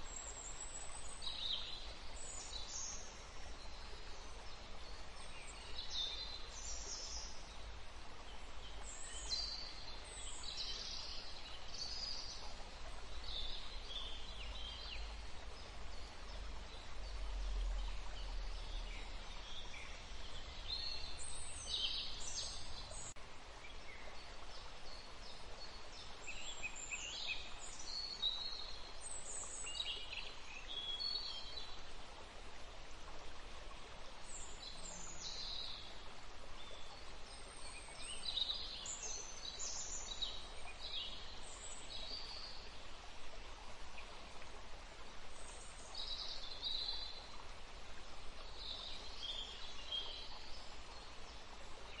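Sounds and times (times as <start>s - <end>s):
faint background hiss: 0.0s - 52.0s.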